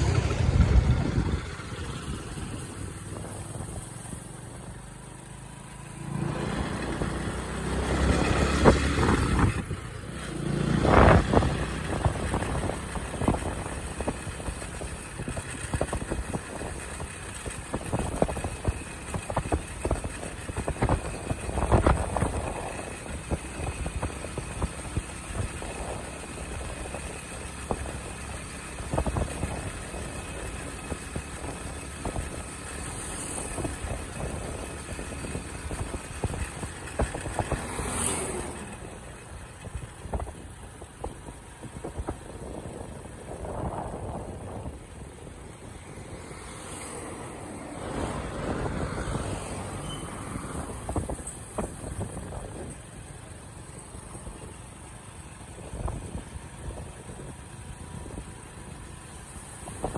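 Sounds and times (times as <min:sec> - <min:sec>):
wind rushing over microphone: 0:00.0 - 0:04.7, 0:06.0 - 0:59.9
motorcycle engine cruising: 0:00.0 - 0:59.9.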